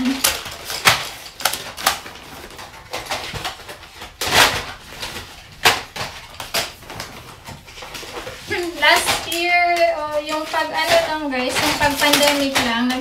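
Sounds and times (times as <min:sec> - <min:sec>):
small objects clattering on a table: 0:00.0 - 0:13.0.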